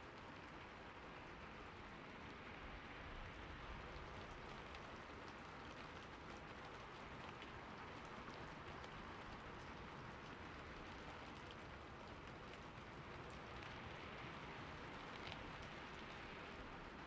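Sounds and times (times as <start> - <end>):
rain on a roof: 0.0 - 17.0.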